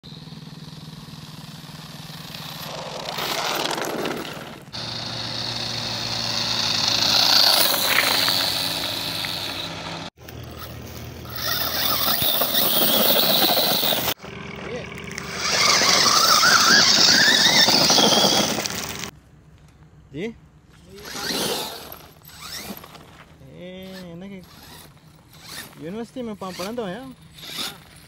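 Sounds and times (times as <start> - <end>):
tyres on asphalt: 0.0 - 28.0
rc truck motor whine: 0.1 - 19.1, 21.0 - 23.2, 23.8 - 28.0
tyres churning over gravel and leaves: 0.8 - 19.2, 21.0 - 28.0.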